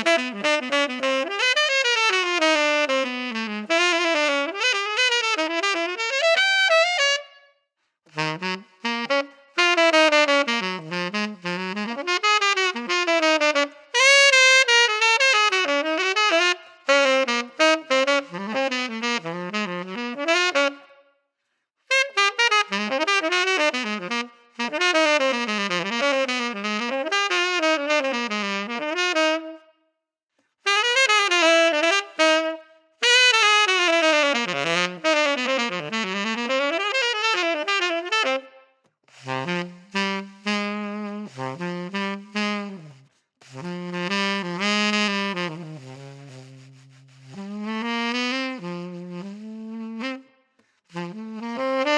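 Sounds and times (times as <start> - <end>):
saxophone playing jazz lines: 0.0 - 7.4, 8.1 - 21.0, 21.9 - 29.7, 30.6 - 51.9.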